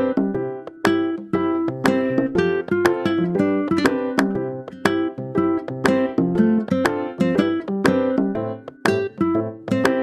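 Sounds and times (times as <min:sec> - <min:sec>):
plucked ukulele notes: 0:00.0 - 0:10.0.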